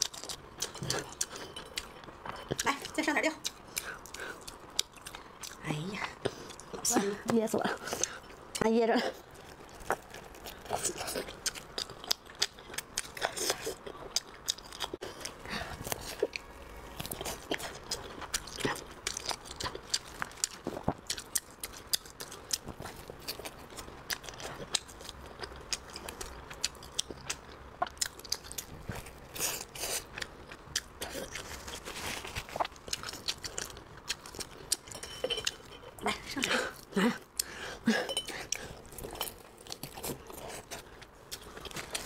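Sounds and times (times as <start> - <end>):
person chewing crunchily: 0.0 - 6.9, 7.8 - 42.0.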